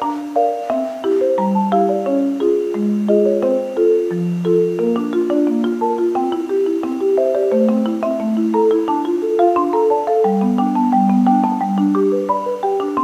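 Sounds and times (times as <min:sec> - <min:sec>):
light melody of struck pitched notes: 0:00.0 - 0:13.0.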